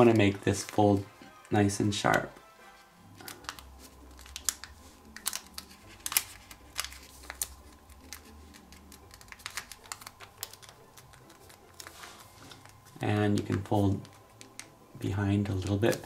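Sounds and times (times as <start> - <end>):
paper crackling as it is folded: 0.0 - 1.1, 3.1 - 14.8, 15.4 - 16.0.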